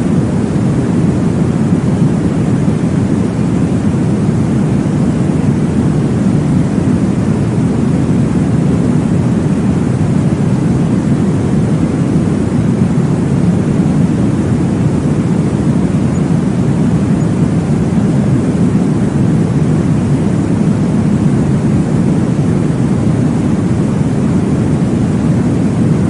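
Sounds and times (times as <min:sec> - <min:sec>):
low whooshing womb sound: 0:00.0 - 0:26.0.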